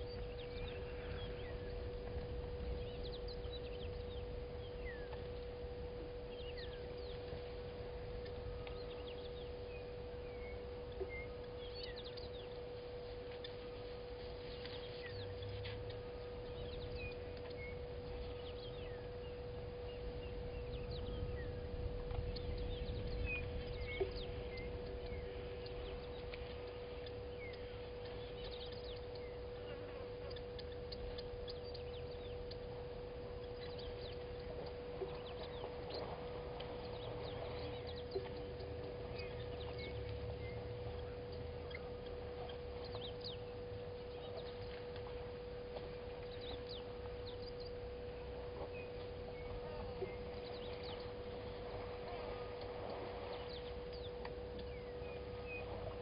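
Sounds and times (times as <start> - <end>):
faint low rumble: 0.0 - 56.0
steady hum: 0.0 - 56.0.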